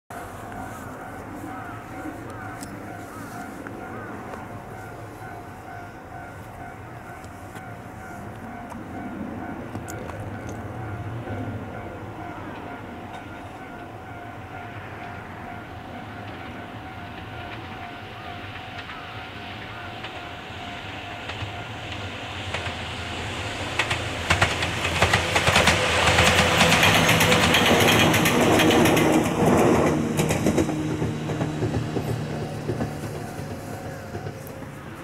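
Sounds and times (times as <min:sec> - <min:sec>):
electric train passing: 0:00.1 - 0:35.0
wheels clacking over rail joints: 0:02.2 - 0:35.0.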